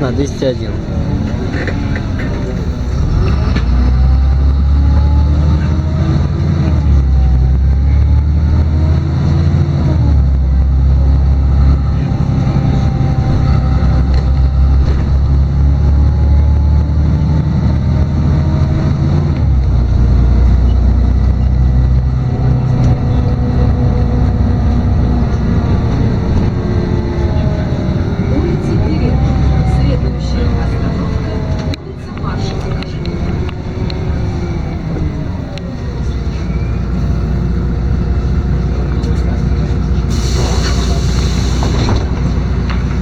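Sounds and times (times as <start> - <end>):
bus diesel engine drone: 0.0 - 43.0
bus whining tones: 0.0 - 43.0.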